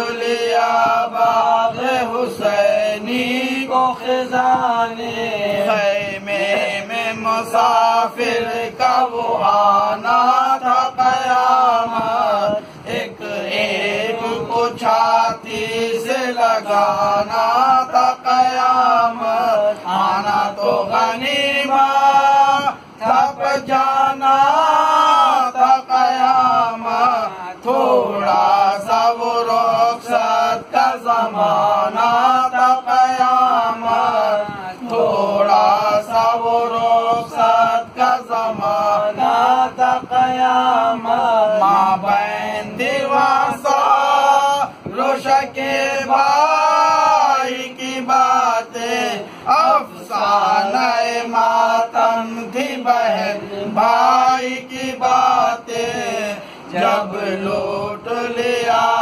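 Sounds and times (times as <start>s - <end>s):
men chanting unaccompanied: 0.0s - 59.0s.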